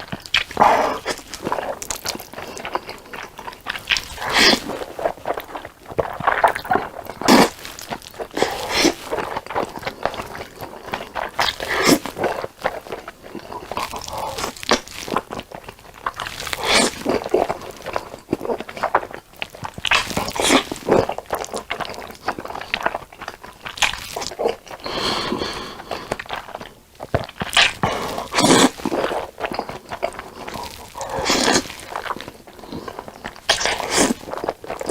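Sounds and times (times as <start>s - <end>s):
noodles slurped: 0.0s - 34.9s
wet smacking chewing: 0.0s - 34.9s.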